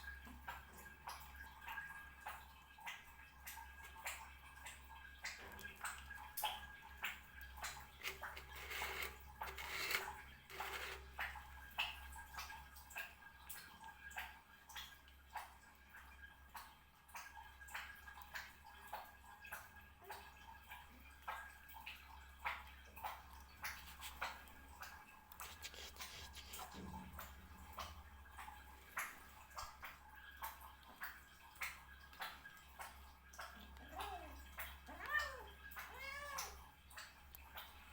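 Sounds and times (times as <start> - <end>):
cat eating and chewing: 0.3 - 37.9.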